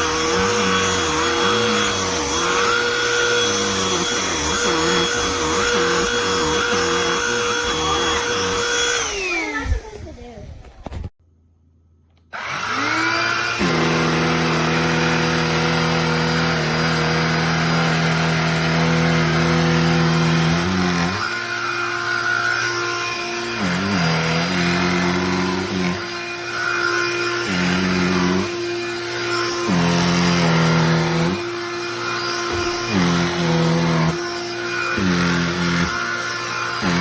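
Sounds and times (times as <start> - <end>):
handheld vacuum motor whine: 0.0 - 11.0, 12.2 - 37.0.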